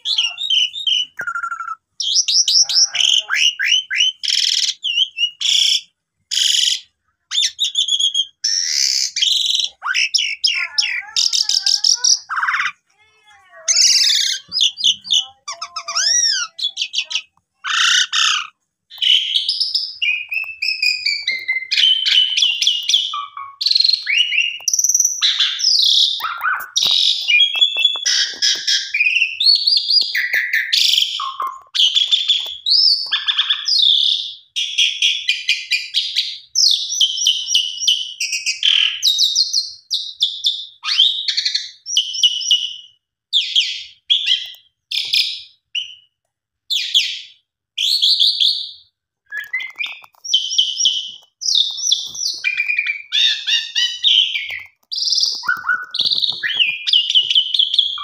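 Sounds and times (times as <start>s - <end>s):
starling singing: 0.0s - 46.1s, 46.7s - 58.0s.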